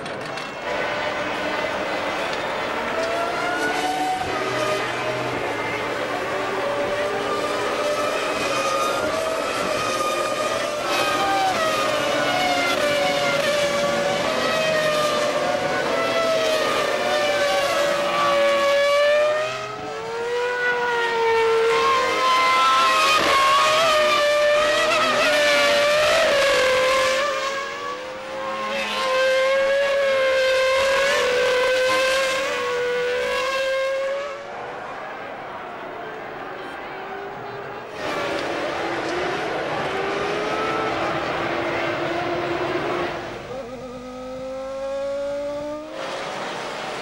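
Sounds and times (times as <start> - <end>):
racing car engines at high revs: 0.0 - 47.0.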